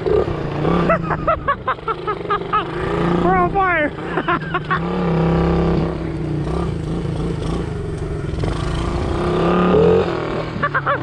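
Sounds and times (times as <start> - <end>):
small motorbike engine revving: 0.0 - 11.0.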